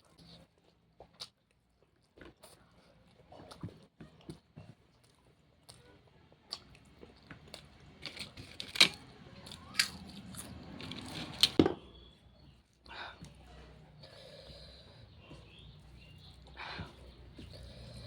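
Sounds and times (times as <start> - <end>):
person chewing food: 0.0 - 11.6, 12.4 - 18.0.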